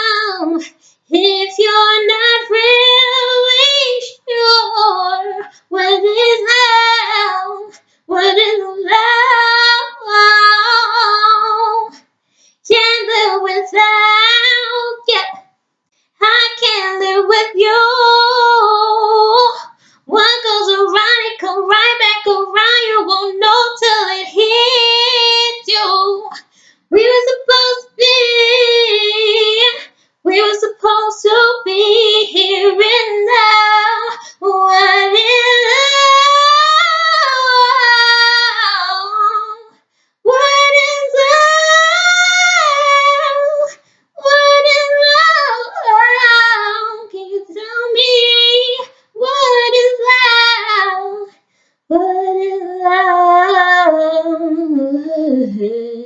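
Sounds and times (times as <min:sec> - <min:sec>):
woman singing unaccompanied: 0:00.0 - 0:12.0, 0:12.6 - 0:15.4, 0:16.2 - 0:56.0.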